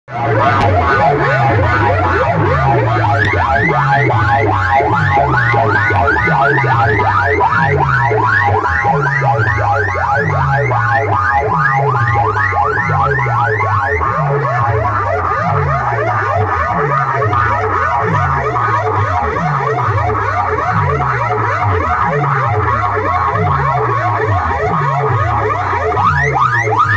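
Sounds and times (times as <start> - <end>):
deep sliding bass tone: 0.0 - 26.9
rising electronic siren whoop: 0.1 - 26.9.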